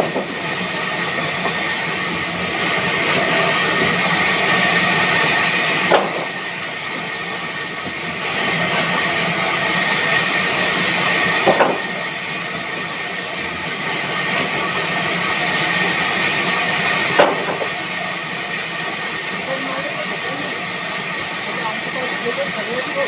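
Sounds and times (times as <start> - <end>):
sawmill machinery hissing: 0.0 - 23.0.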